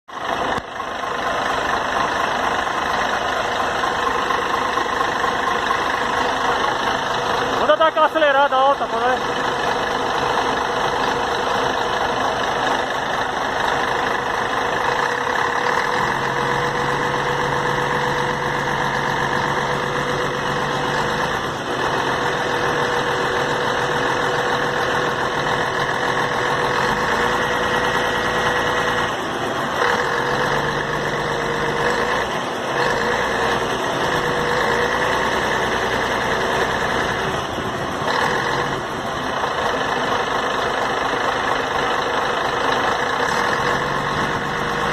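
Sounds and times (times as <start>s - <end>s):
diesel engine idling: 0.1s - 44.9s.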